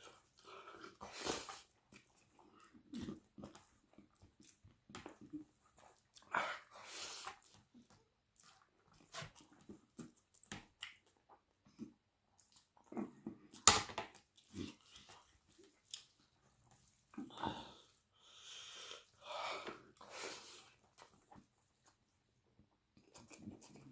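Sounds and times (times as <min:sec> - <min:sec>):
chewing and lip-smacking: 0:00.0 - 0:18.0, 0:19.7 - 0:22.3, 0:22.9 - 0:23.9.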